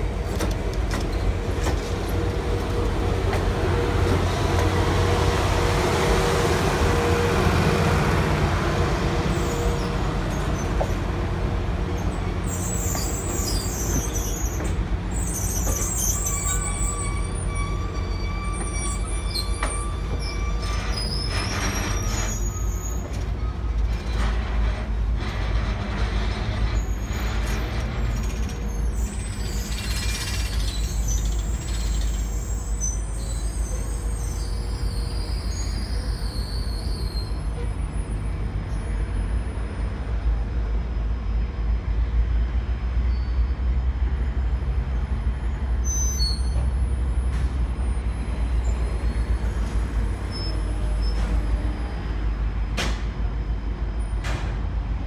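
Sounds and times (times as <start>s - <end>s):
train coaches rolling: 0.0s - 55.0s
metallic wheel and brake squeals: 1.0s - 2.2s, 9.3s - 11.0s, 11.9s - 54.7s.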